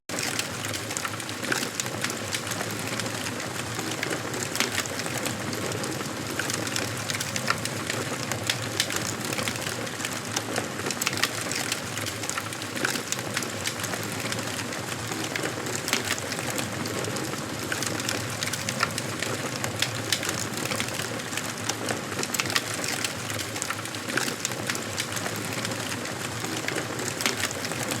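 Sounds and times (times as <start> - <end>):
wood fire crackling and popping: 0.1 - 28.0.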